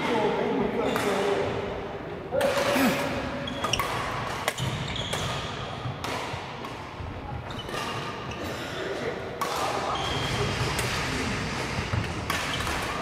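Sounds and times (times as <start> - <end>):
shuttlecock hits echoing: 0.8 - 8.2, 9.3 - 13.0.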